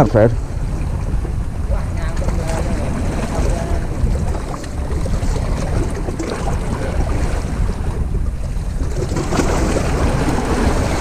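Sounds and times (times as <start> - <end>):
waves washing against rocks: 0.0 - 11.0
wind buffeting microphone: 0.0 - 11.0.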